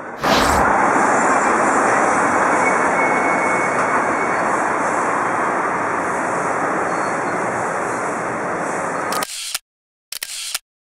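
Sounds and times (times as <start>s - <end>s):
street traffic roar: 0.0s - 9.3s.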